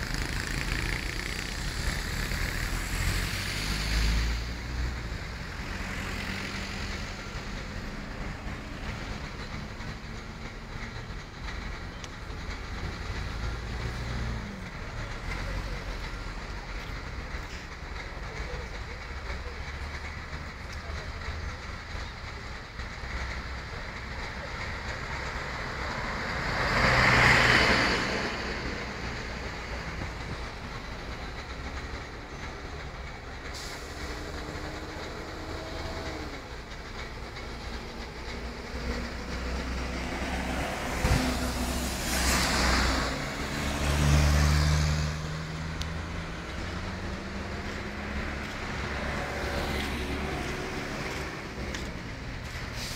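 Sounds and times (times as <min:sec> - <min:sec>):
traffic rumble: 0:00.0 - 0:52.9
vehicles passing close by: 0:00.0 - 0:52.9.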